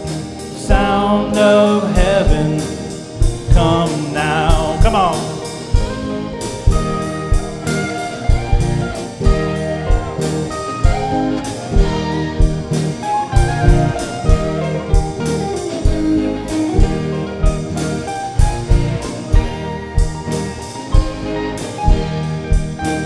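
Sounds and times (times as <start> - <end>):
drum kit beat: 0.0 - 23.0
electric guitar lead: 0.0 - 23.0
keyboard: 0.0 - 23.0.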